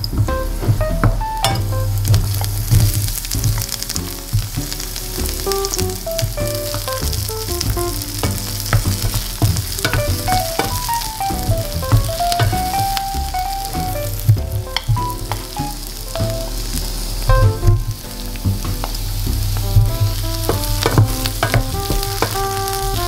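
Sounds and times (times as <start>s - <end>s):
garlic and onion sizzling in oil: 0.0s - 23.0s
soft melody: 0.0s - 23.0s.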